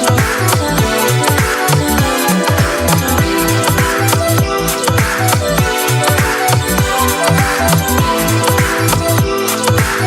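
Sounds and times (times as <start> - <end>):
electronic dance music: 0.0 - 10.0
punchy kick drums: 0.0 - 10.0.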